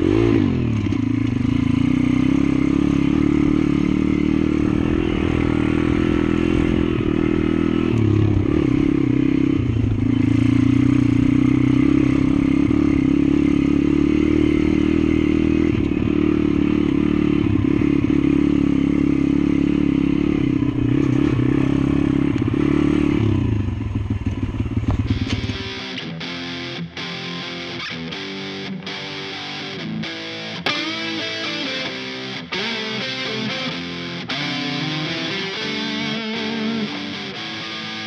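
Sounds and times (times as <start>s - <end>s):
small motorbike engine running: 0.0s - 38.0s.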